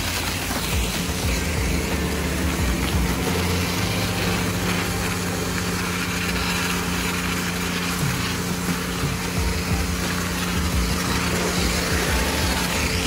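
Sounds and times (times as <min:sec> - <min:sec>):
foam spraying hiss: 0:00.0 - 0:13.0
pressure pump humming: 0:00.0 - 0:13.0.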